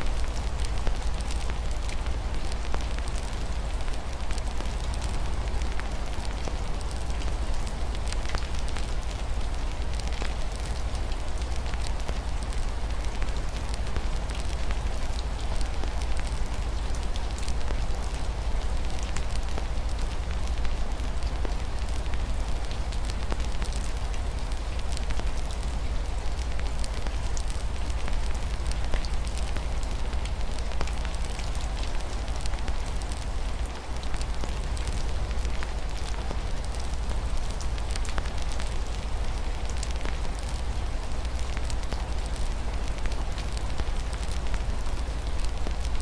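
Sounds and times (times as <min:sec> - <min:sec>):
rain on a window: 0:00.0 - 0:46.0
wood fire crackling: 0:00.1 - 0:46.0.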